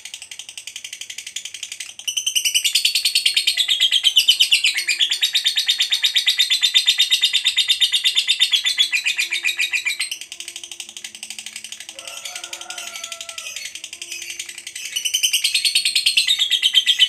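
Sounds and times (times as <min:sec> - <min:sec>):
lovebird chattering: 0:00.0 - 0:17.0.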